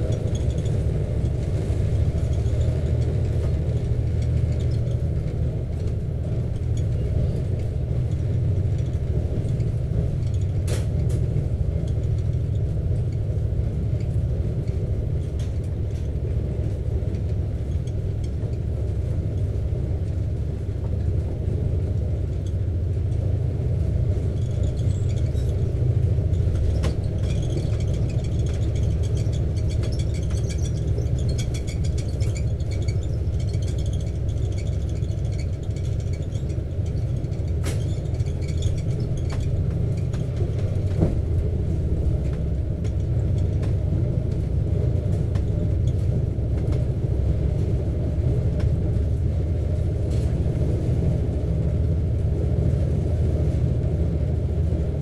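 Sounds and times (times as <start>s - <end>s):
train carriage low rumble: 0.0s - 55.0s.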